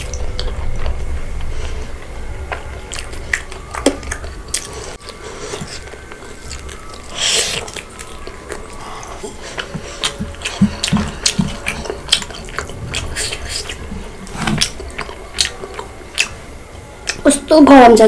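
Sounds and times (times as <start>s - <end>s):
person chewing food: 0.0s - 17.2s.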